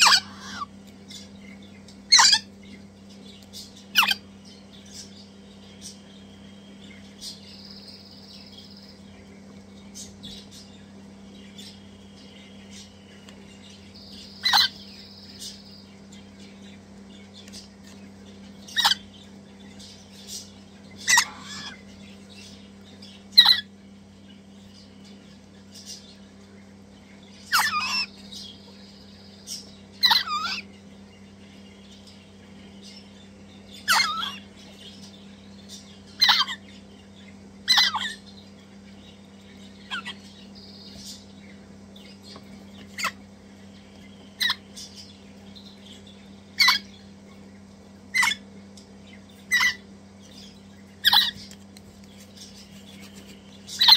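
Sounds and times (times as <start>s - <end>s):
chicks giving harsh begging calls: 0.0s - 17.0s, 17.7s - 31.6s, 32.2s - 51.6s, 52.4s - 53.9s
steady low hum: 0.0s - 53.9s.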